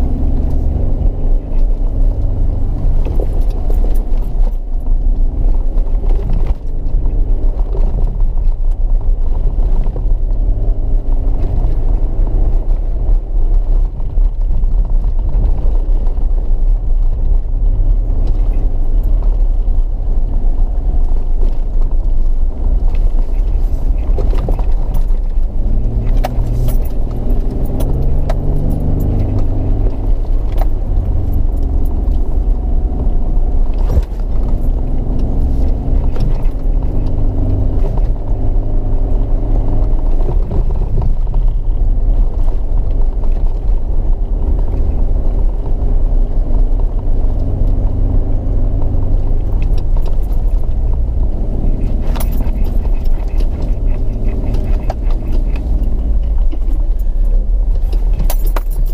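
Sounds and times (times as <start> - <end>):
vehicle engine rumbling: 0.0 - 58.9
vehicle rattles and knocks: 0.0 - 58.9.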